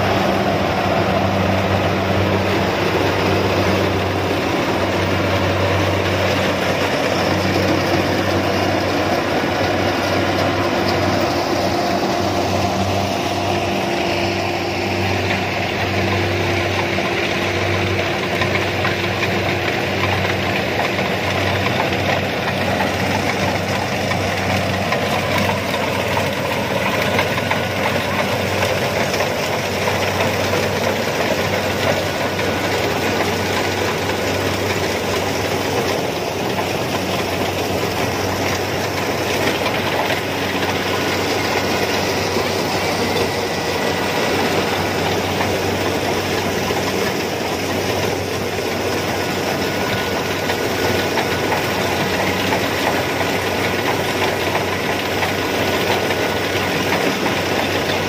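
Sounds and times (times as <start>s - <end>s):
cutting header clatter: 0.0s - 58.0s
diesel engine running under load: 0.0s - 58.0s.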